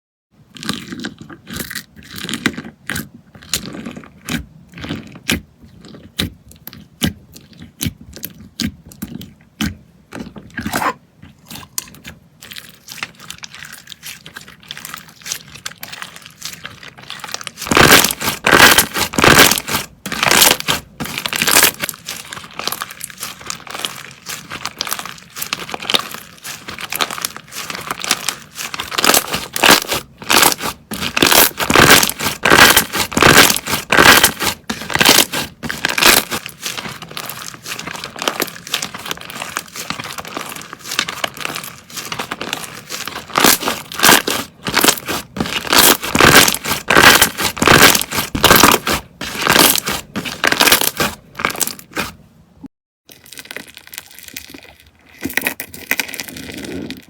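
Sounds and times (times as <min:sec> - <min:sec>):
slime squished by hand: 0:00.5 - 0:52.2.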